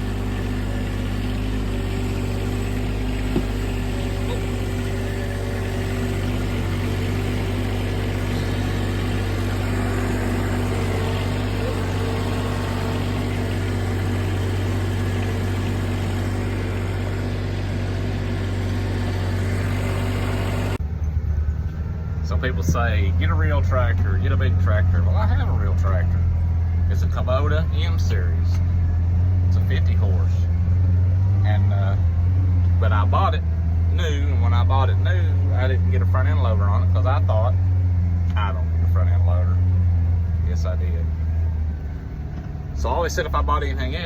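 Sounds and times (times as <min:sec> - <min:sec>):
tractor engine running steadily: 0:00.0 - 0:44.0.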